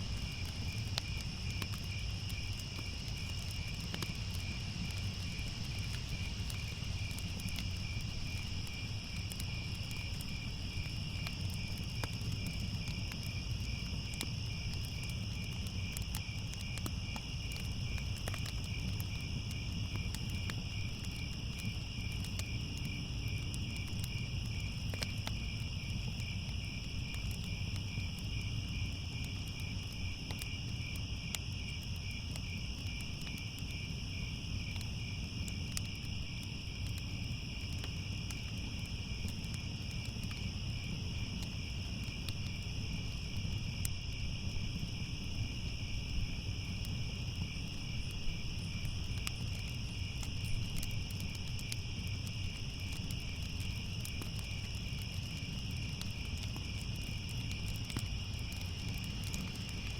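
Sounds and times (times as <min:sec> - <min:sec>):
crickets chirping: 0:00.0 - 0:59.9
faint crackles: 0:00.0 - 0:59.9.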